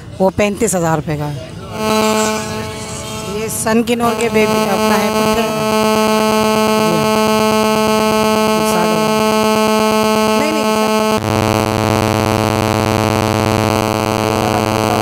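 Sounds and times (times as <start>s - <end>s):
electronic buzz with rasping pulse: 1.7s - 15.0s.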